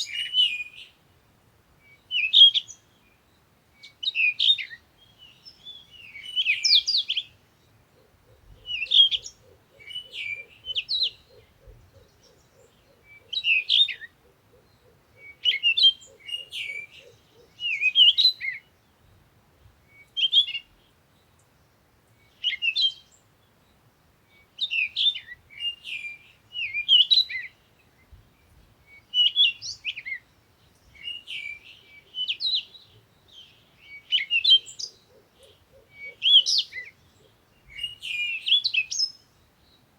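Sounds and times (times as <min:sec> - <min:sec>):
bird chirping: 0:00.0 - 0:01.0, 0:01.8 - 0:19.2, 0:19.8 - 0:39.9.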